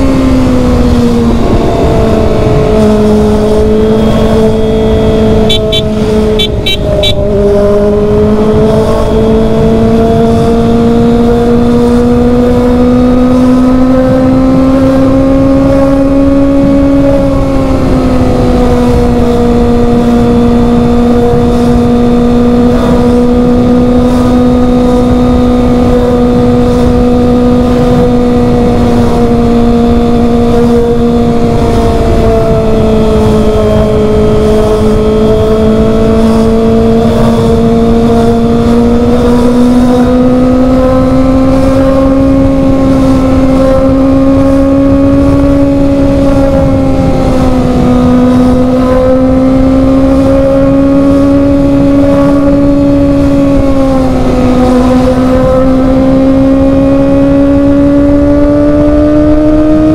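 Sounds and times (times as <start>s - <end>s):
motorcycle engine high-pitched drone: 0.0s - 59.9s
wind rush: 0.0s - 59.9s.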